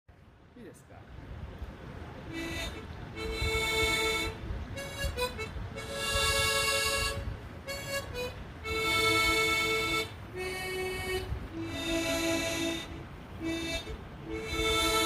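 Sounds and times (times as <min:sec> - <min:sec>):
harmonica playing slow melody: 0:02.3 - 0:15.0.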